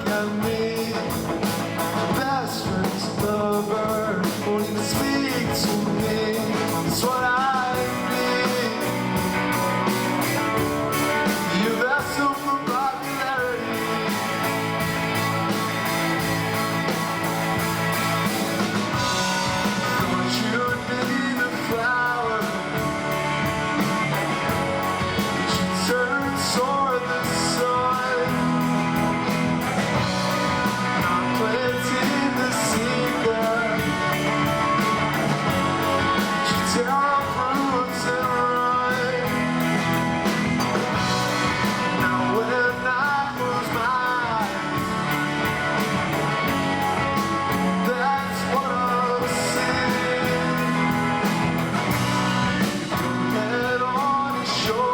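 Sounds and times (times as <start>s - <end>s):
bending lead guitar line: 0.0s - 54.9s
live rock band playing: 0.0s - 54.9s.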